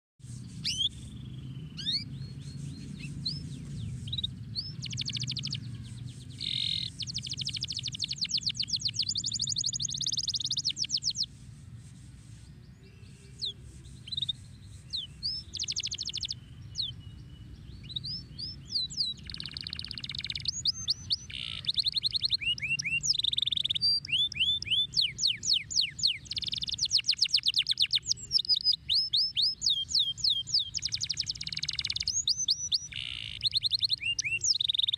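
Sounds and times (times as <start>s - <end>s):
canary singing trills and whistles: 0.4s - 11.4s, 12.8s - 34.9s.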